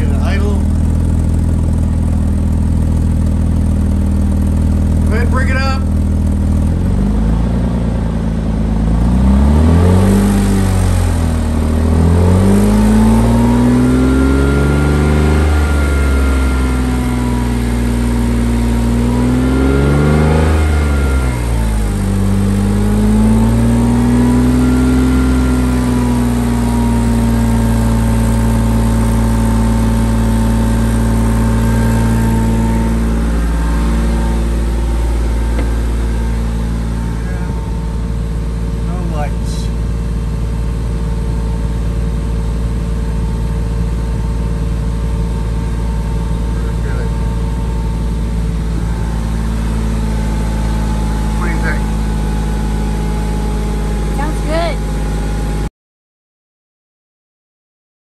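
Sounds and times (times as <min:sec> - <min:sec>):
car engine revving and idling: 0:00.0 - 0:55.7.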